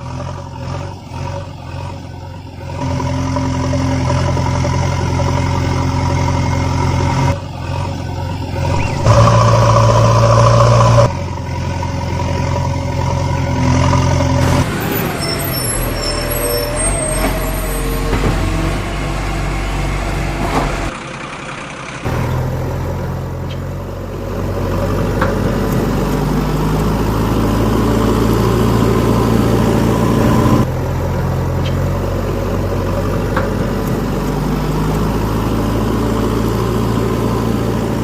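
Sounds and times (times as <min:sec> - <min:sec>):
heavy vehicle engine running: 0:00.0 - 0:38.0.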